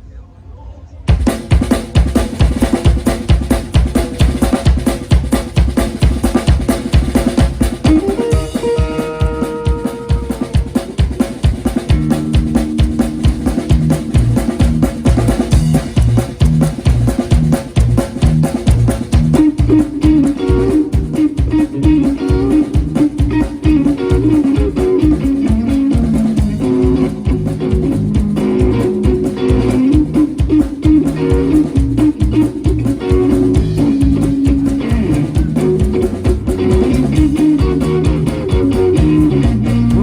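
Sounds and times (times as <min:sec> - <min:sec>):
bass guitar: 0:01.1 - 0:40.0
steady drum beat: 0:01.1 - 0:40.0
guitar riffing: 0:07.7 - 0:40.0.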